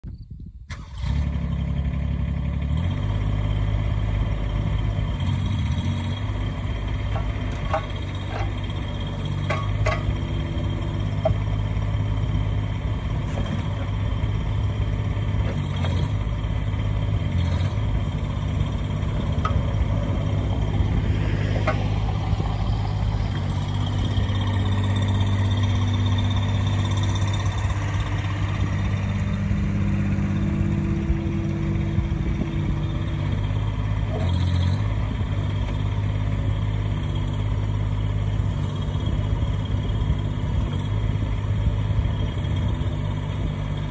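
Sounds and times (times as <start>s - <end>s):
excavator diesel engine running: 0.7s - 43.9s.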